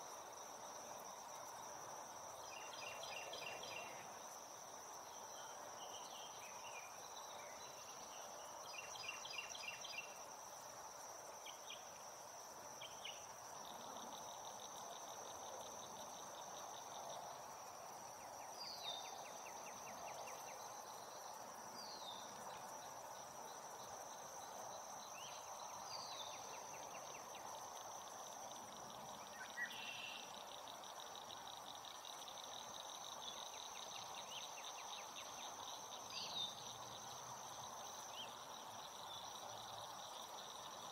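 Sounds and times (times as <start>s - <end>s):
insect drone: 0.0s - 40.9s
pulsed insect trills: 0.0s - 40.9s
soft background hiss: 0.0s - 40.9s.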